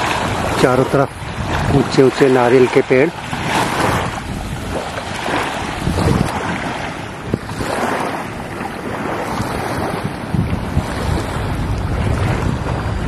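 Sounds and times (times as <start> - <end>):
small waves washing onto beach: 0.0 - 13.0
wind gusting across microphone: 0.0 - 13.0.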